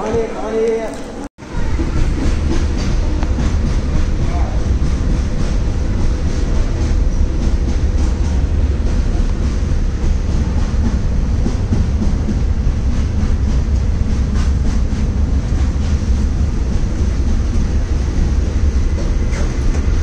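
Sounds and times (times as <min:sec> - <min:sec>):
train rumbling slowly: 0:01.4 - 0:20.0.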